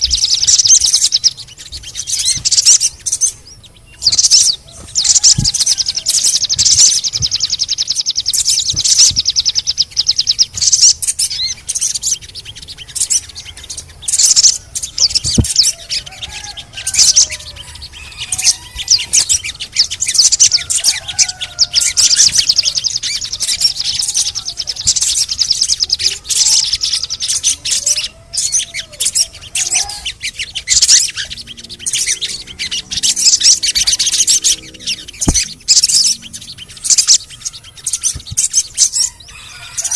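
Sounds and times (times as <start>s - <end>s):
sunbird high-pitched chirps and trills: 0.0s - 39.9s.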